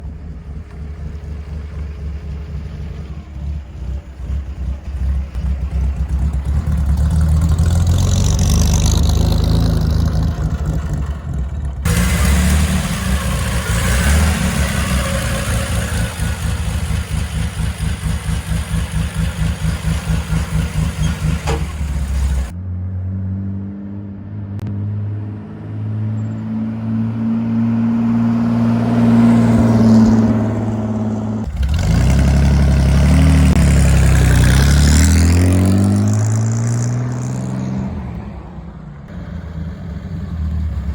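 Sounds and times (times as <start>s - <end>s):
truck engine revving: 0.0s - 22.5s, 25.0s - 40.9s.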